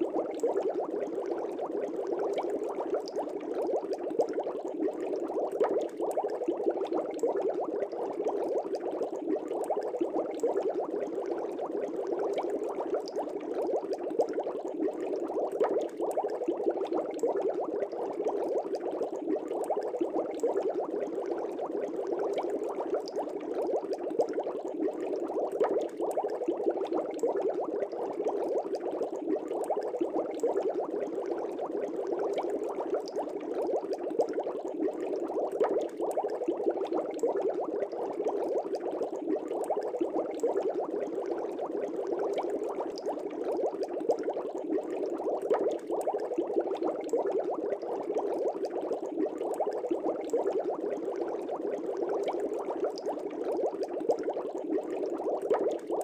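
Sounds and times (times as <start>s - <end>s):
aquarium air bubbling: 0.0s - 56.0s.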